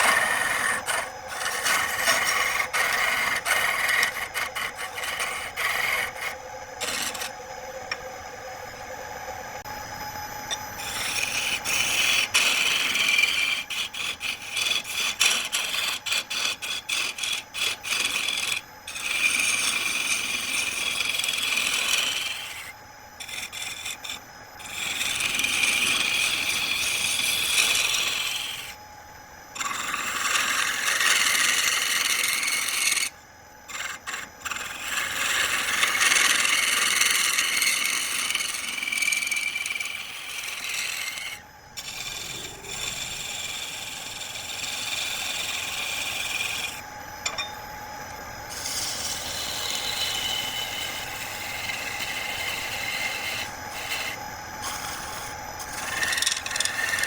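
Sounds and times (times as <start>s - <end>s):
tool scraping wood on lathe: 0.0s - 7.4s, 10.5s - 28.8s, 29.5s - 47.4s, 48.5s - 57.0s.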